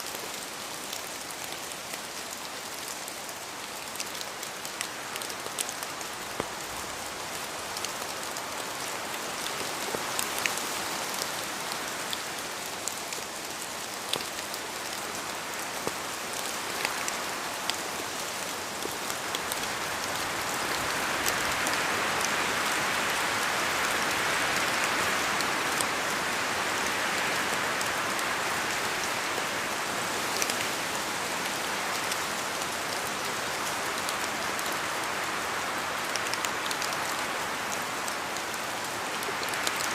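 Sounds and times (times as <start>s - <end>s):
rain falling through trees: 0.0s - 39.9s.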